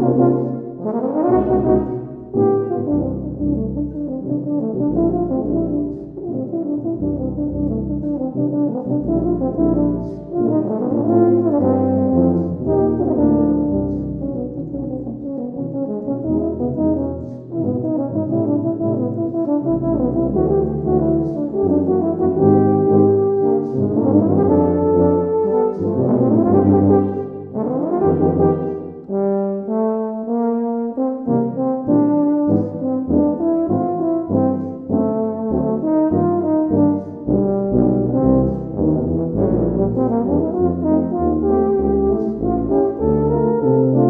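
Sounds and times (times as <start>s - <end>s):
euphonium and tuba quartet playing: 0.0s - 44.0s.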